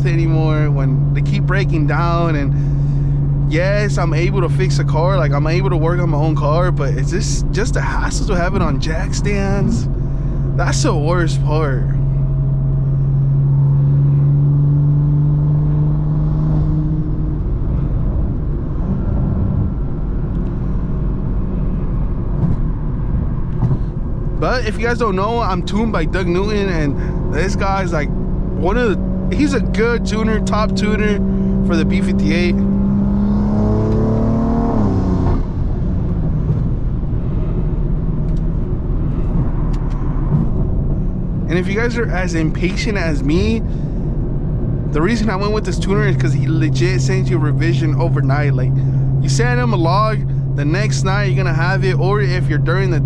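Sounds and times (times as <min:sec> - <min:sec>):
car engine exhaust drone: 0:00.0 - 0:53.0
road noise: 0:00.0 - 0:53.0.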